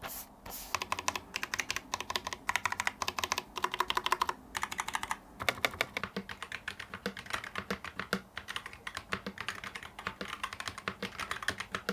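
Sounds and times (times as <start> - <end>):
mechanical keyboard typing: 0.6 - 11.9.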